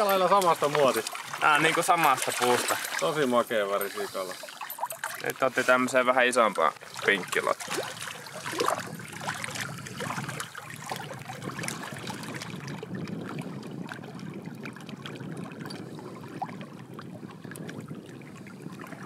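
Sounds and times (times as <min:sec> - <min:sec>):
water trickling and lapping: 0:00.0 - 0:19.0.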